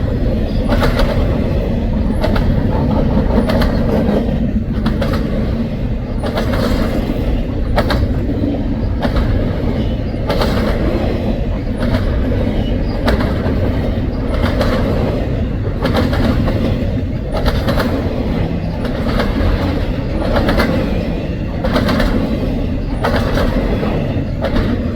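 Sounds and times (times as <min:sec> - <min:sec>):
train cars rumbling past: 0:00.0 - 0:24.9
train wheels clacking: 0:00.0 - 0:24.9.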